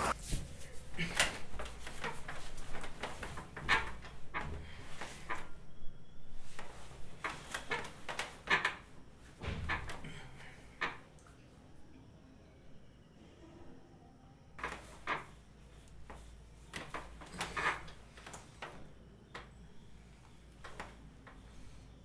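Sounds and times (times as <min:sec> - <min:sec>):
bedding rustling: 0:00.0 - 0:10.3, 0:14.6 - 0:22.0.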